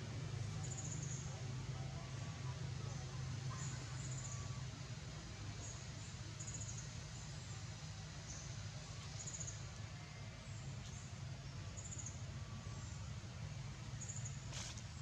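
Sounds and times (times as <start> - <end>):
steady low hum and hiss: 0.0 - 15.0.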